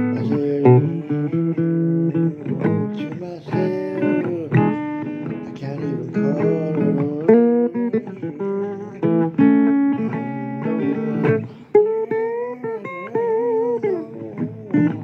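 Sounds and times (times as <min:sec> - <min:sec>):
blues guitar playing: 0:00.0 - 0:15.0.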